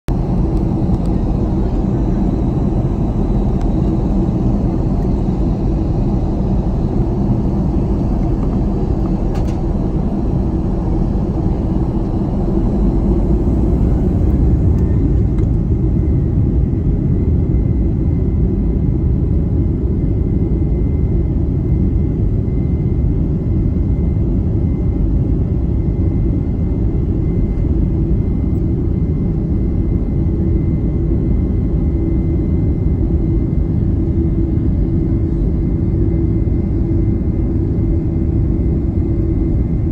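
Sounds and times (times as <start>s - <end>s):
jet engine cabin rumble: 0.1s - 39.9s.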